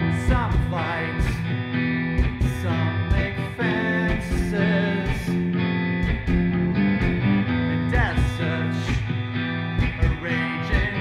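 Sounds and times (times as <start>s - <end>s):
alternative rock song: 0.0s - 11.0s.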